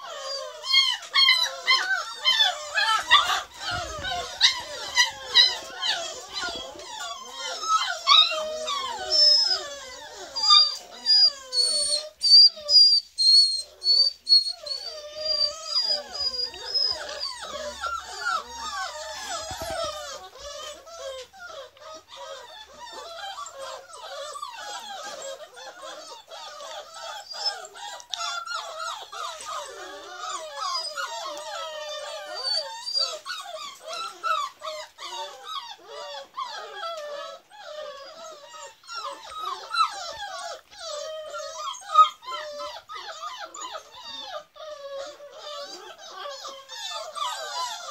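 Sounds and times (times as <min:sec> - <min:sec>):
puppies whining and yelping: 0:00.0 - 0:47.9.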